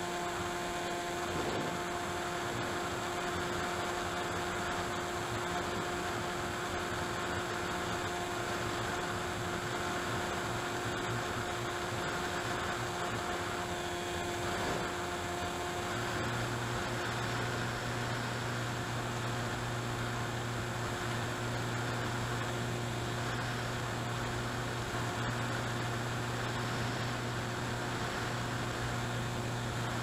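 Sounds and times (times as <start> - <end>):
low hum: 0.0 - 30.0
rc plane electric motor drone: 0.0 - 30.0.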